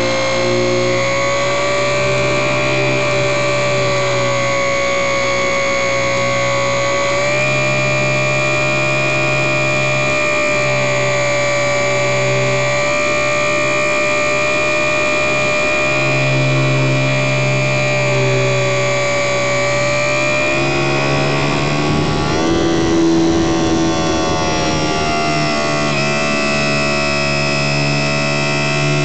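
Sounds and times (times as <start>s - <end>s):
rc plane motor whine: 0.0s - 29.0s.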